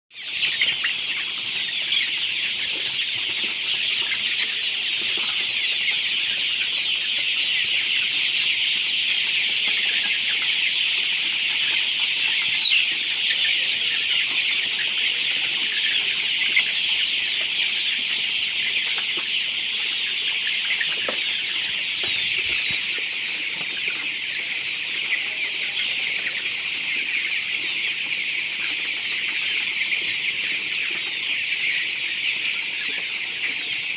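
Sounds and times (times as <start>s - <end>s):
chicks peeping and cheeping: 0.1s - 33.9s.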